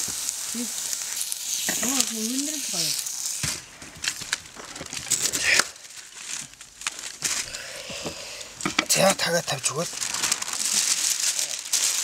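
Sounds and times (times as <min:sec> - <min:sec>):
hot stones sizzling against meat: 0:00.0 - 0:12.0.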